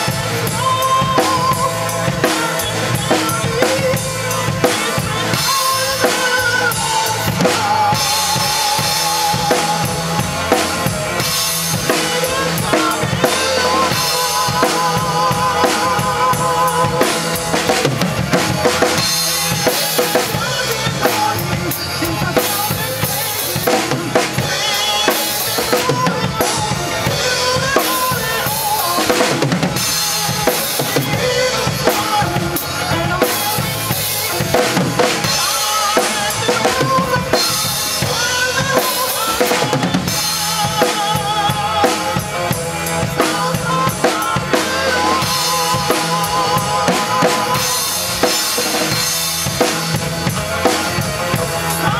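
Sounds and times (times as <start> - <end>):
drum kit playing: 0.0 - 51.9
recorded rock song: 0.0 - 51.9.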